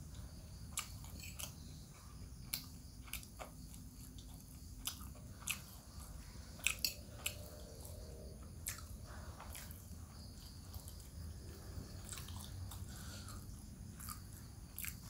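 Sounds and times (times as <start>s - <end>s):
person chewing: 0.2s - 15.0s.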